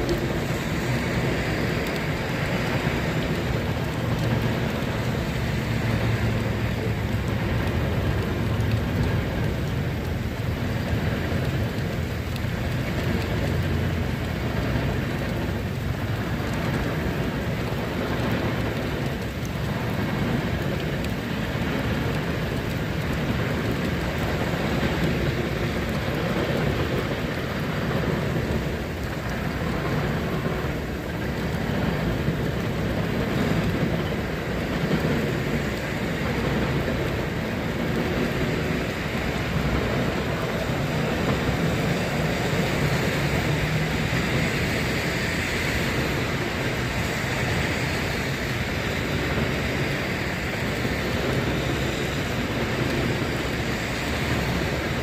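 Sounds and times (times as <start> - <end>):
cars passing on wet road: 0.0 - 55.0
steady rain: 0.0 - 55.0.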